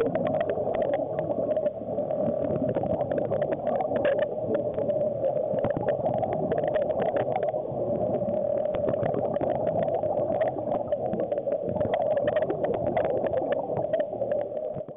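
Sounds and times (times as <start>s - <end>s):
underwater clicks and crackles: 0.0s - 14.9s
underwater hum: 0.0s - 14.9s.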